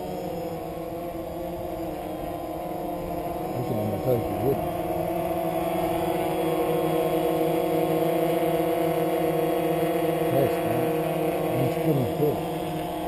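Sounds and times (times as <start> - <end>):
quadcopter drone hovering: 0.0 - 13.0.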